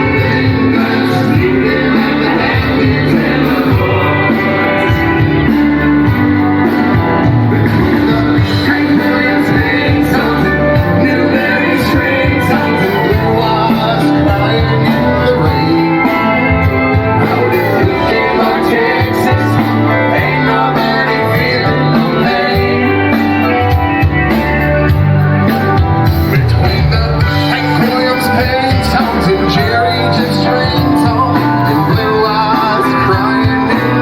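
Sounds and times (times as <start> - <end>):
music with guitar and singing: 0.0 - 34.0.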